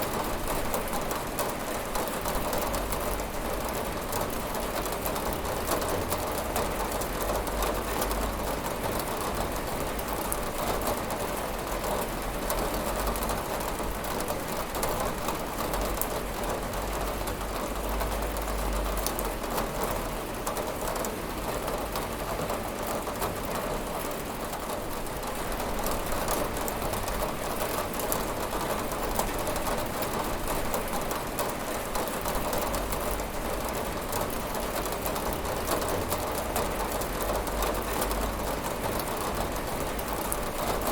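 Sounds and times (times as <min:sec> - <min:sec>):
heavy rain on a window: 0:00.0 - 0:40.9.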